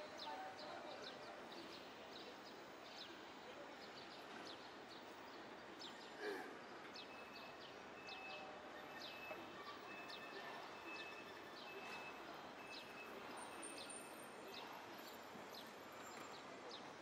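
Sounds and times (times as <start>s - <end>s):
city street ambience: 0.0s - 17.0s.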